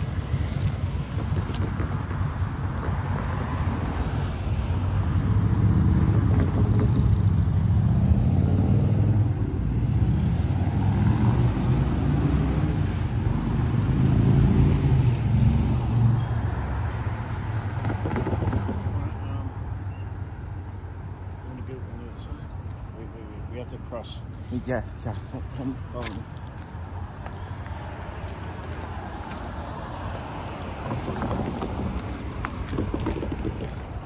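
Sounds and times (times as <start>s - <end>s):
cars passing on street: 0.0s - 34.0s.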